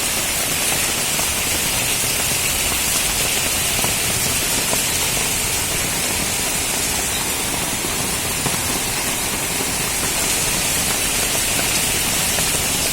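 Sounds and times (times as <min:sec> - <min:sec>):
rain falling: 0:00.0 - 0:12.9.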